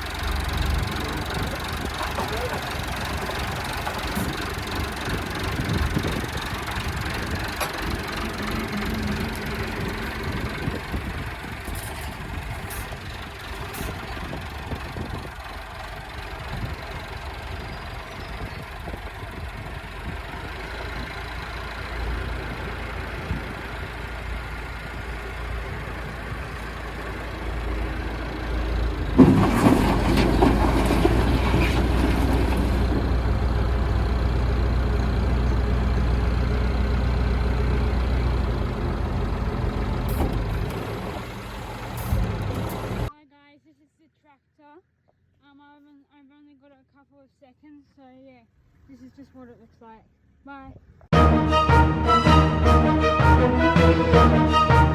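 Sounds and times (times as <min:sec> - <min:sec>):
engine running: 0:00.0 - 0:43.1, 0:51.1 - 0:54.9.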